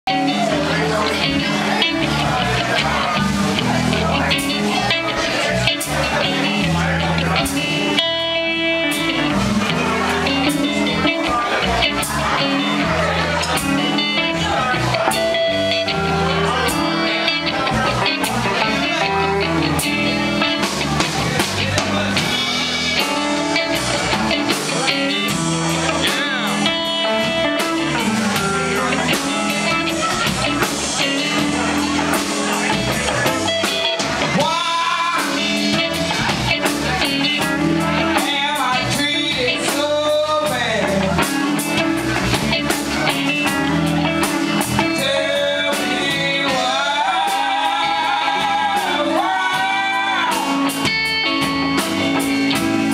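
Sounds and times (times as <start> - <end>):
blues band playing: 0.0 - 52.9.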